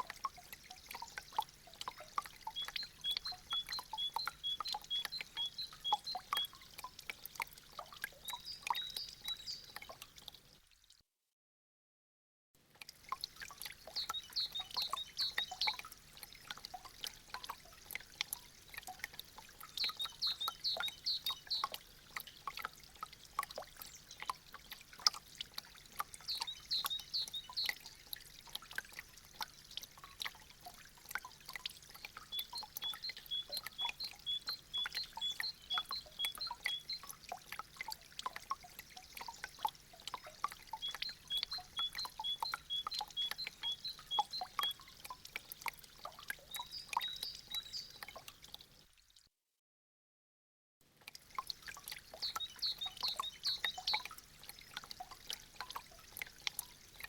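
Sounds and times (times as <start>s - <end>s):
water dripping from icicles: 0.0s - 11.0s, 12.6s - 49.3s, 50.8s - 57.0s
light water trickle: 0.0s - 11.2s, 12.6s - 49.4s, 50.8s - 57.0s.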